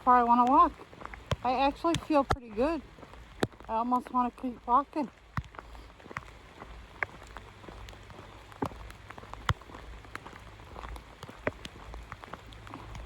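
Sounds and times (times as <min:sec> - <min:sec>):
rain hiss: 0:00.0 - 0:13.0
raindrops tapping: 0:00.0 - 0:13.0.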